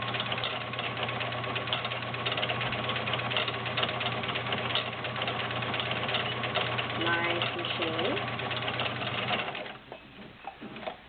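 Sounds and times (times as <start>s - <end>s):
sewing machine clattering: 0.0s - 11.0s.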